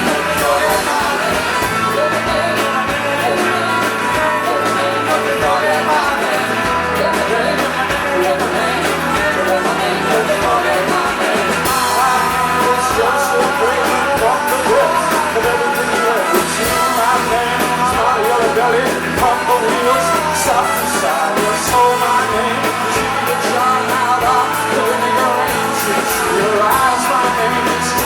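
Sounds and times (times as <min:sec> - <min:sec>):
drum hits: 0:00.0 - 0:28.0
live rock band playing: 0:00.0 - 0:28.0
person singing: 0:00.0 - 0:28.0.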